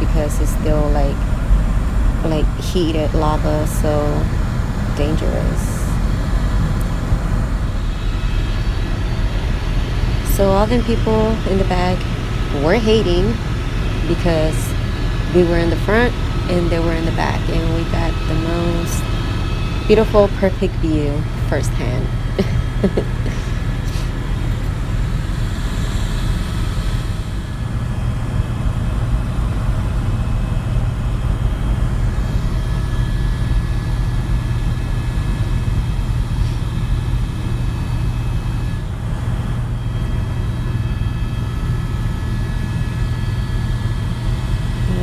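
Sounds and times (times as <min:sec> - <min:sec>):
faint steady whine: 0:00.0 - 0:45.0
helicopter rotor and engine drone: 0:00.0 - 0:45.0.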